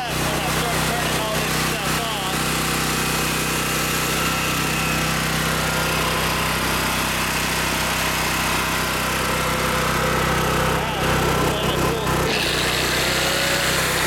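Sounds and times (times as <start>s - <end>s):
generator engine running: 0.0s - 14.0s
vacuum cleaners whining: 0.0s - 14.0s.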